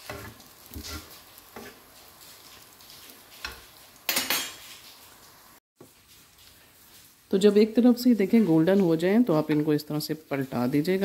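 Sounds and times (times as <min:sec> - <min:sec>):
faint frying sizzle: 0:00.0 - 0:11.0.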